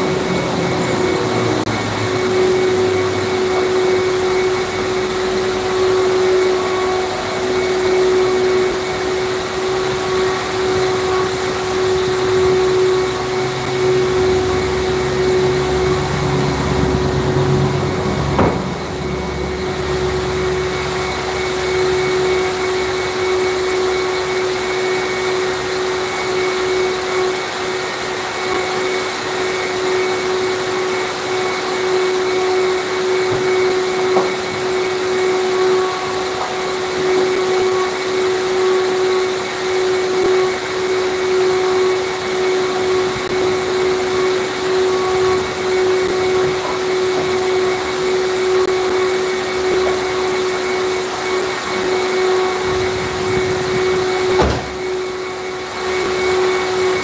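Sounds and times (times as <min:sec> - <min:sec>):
vacuum cleaner whining: 0:00.0 - 0:57.0.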